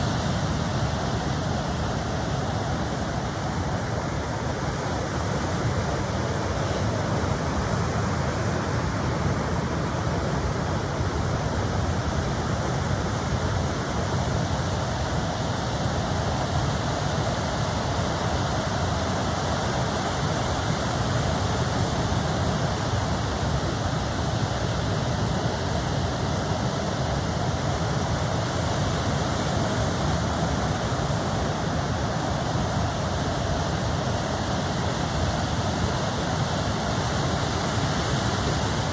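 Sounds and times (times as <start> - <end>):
ocean surf roar: 0.0 - 38.9.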